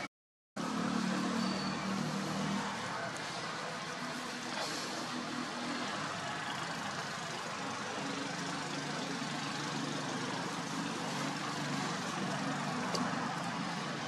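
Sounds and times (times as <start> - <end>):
broad noise: 0.0 - 14.0.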